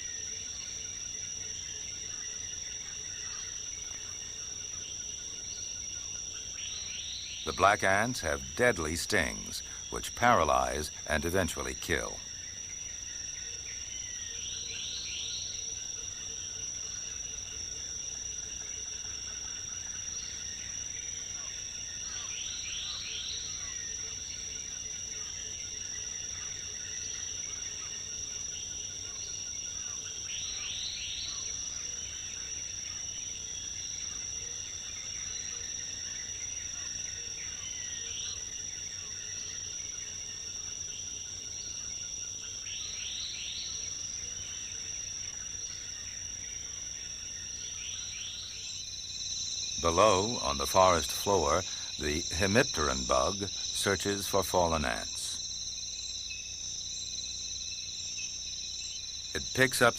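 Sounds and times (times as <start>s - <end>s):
high-pitched insect drone: 0.0s - 59.9s.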